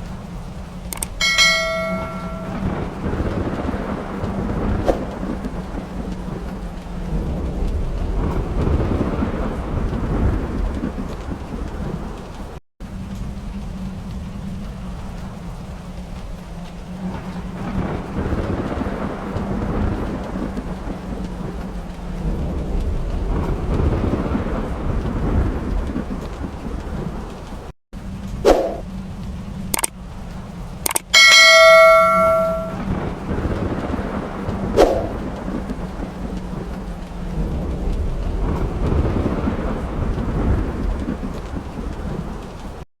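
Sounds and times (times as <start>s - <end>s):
thunder rumbling: 0.0s - 42.8s
steady rain: 0.0s - 42.9s.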